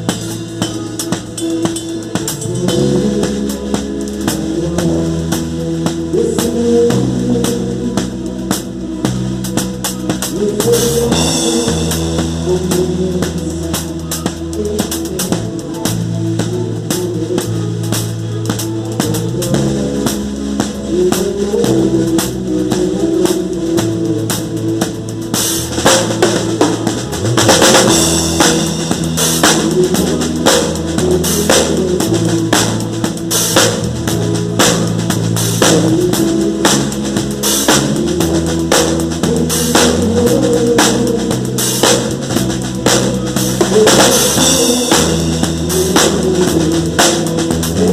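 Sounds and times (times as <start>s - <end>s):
drum kit beat: 0.0s - 47.9s
live band instrumental music: 0.0s - 47.9s.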